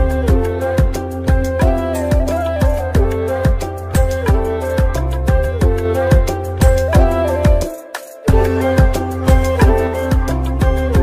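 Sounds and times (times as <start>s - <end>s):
wavering held melody: 0.0s - 11.0s.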